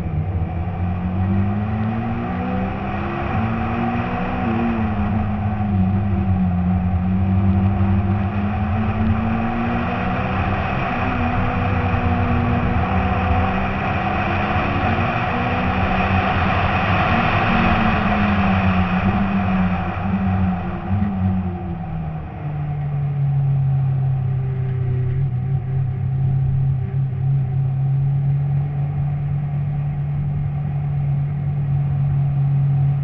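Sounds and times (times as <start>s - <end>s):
rally car engine running hard: 0.0s - 33.0s
wind and road noise: 0.0s - 33.0s.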